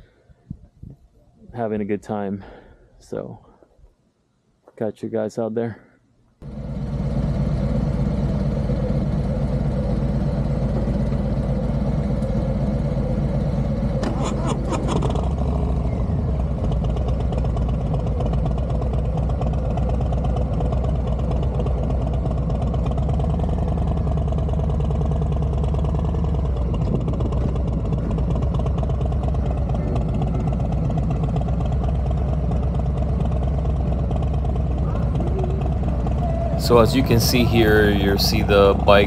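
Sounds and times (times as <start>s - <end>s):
motorcycle engine running: 6.4s - 39.0s.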